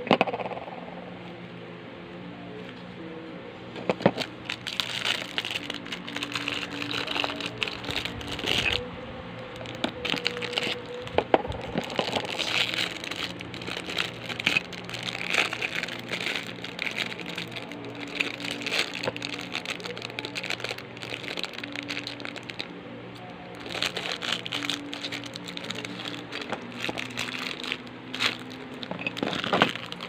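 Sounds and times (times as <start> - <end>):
soft background music: 0.0 - 30.0
plastic bags crinkling: 3.8 - 22.7, 23.5 - 30.0.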